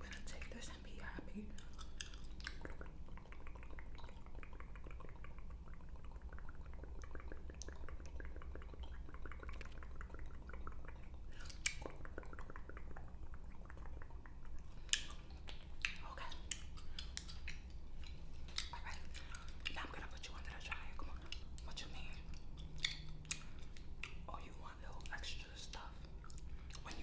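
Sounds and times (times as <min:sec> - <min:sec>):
wet gum chewing and smacking: 0:00.0 - 0:27.0.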